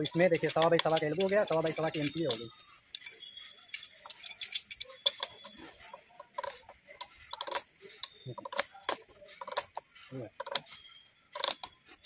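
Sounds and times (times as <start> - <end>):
wrench clicking on metal pipe: 0.0 - 10.7.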